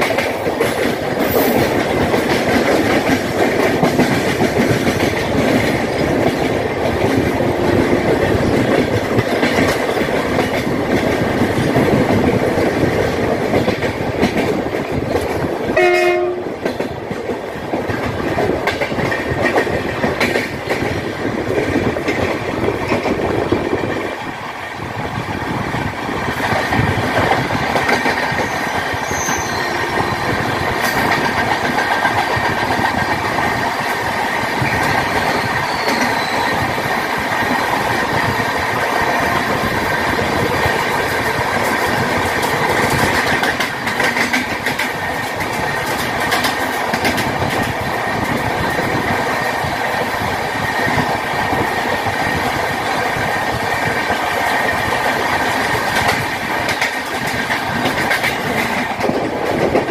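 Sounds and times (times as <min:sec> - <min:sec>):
rush of track noise: 0:00.0 - 0:59.9
train wheels clattering over rail joints: 0:00.0 - 0:59.9.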